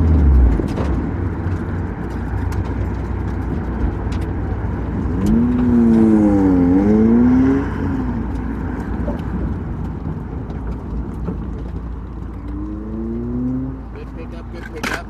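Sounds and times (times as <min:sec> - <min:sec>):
sports car engine under load: 0:00.0 - 0:15.0.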